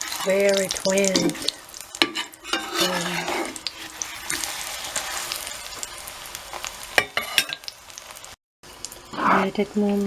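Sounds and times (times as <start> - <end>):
batter sizzling in oil: 0.0 - 10.0.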